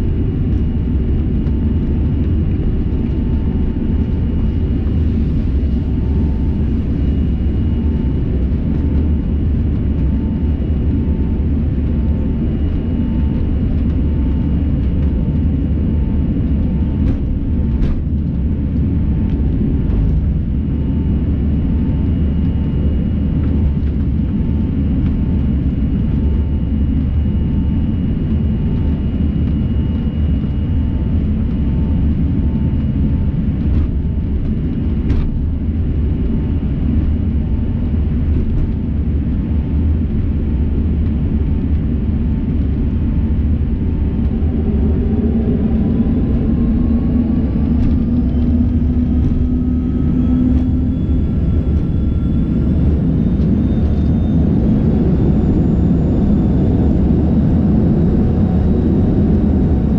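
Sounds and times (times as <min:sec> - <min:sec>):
cabin low rumble: 0:00.0 - 0:59.9
high jet engine whine: 0:00.0 - 0:59.9.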